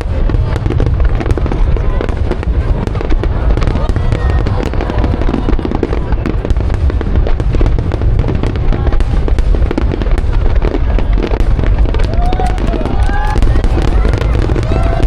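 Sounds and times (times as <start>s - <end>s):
fireworks crackling: 0.0s - 15.0s
low rumble: 0.0s - 15.0s.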